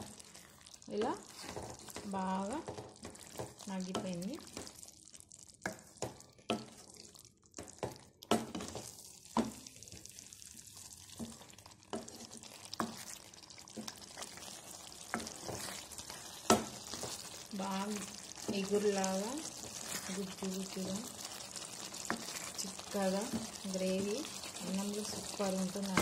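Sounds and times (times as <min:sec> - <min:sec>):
soft sizzle of frying: 0:00.0 - 0:26.0.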